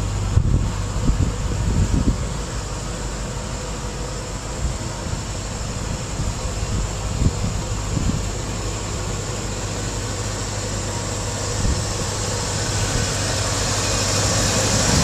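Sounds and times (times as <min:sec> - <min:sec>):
pickup truck engine idling: 0:00.0 - 0:15.0.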